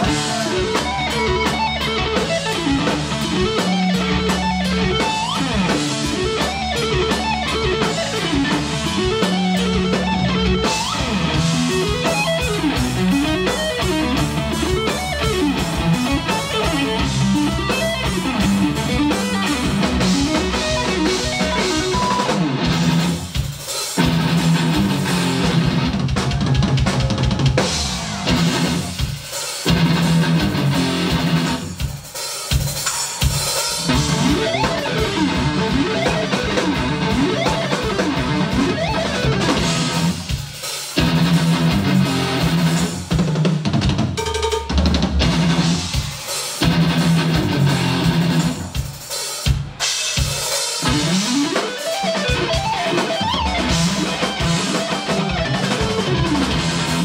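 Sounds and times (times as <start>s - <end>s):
electric guitar lead lines: 0.0s - 31.8s, 33.8s - 43.2s, 45.2s - 48.8s, 50.8s - 57.0s
drum kit: 0.0s - 57.0s.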